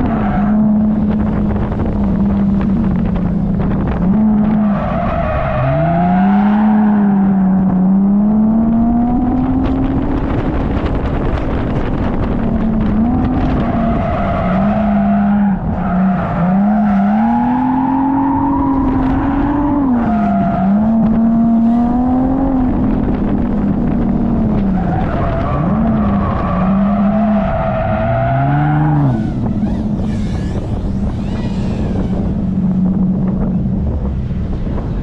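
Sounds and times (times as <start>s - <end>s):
car engine revving: 0.0s - 35.0s
tyres skidding: 0.0s - 35.0s.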